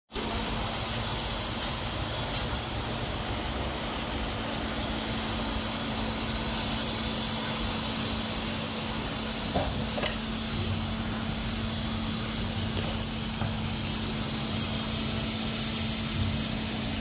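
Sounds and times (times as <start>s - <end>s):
heat pump hum: 0.1s - 17.0s.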